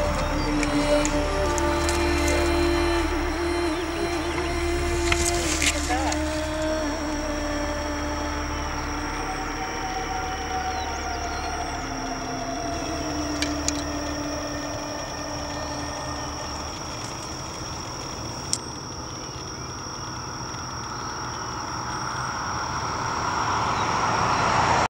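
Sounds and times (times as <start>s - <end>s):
steady low rumble: 0.0s - 24.6s.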